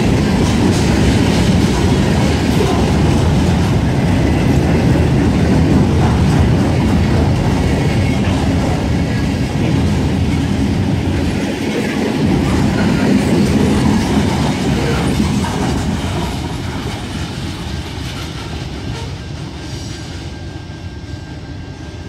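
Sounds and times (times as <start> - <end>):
freight train rumbling past: 0.0 - 22.0
wheels clacking on rails: 0.0 - 22.0.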